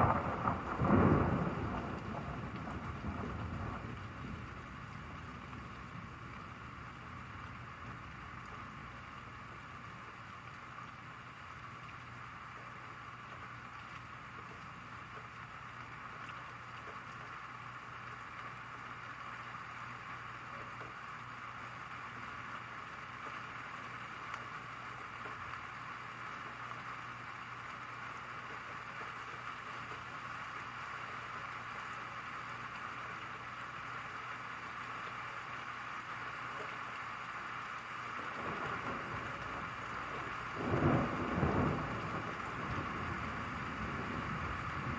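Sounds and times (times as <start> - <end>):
rain hissing: 0.0 - 44.9.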